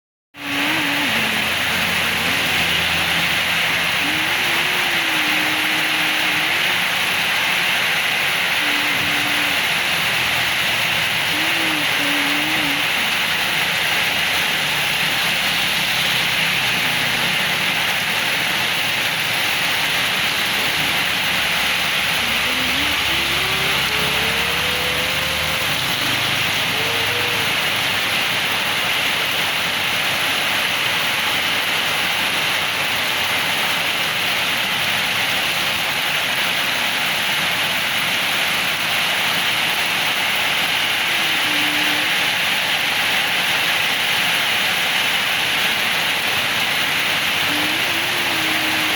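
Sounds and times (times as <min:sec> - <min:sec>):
heavy rain: 0:00.4 - 0:48.9.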